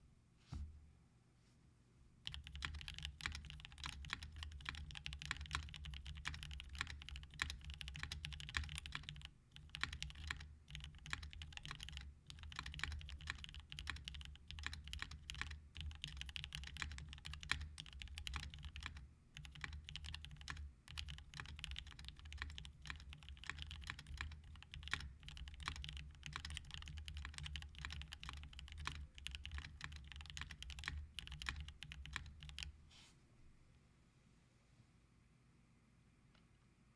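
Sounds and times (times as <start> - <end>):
fast mechanical keyboard typing: 2.2 - 32.7.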